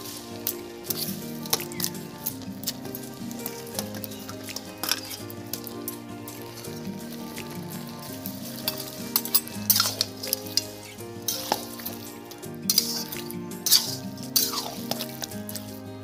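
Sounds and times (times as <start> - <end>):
background music: 0.0 - 16.0
food sizzling: 0.0 - 16.0
spatula scraping metal wok: 0.0 - 16.0.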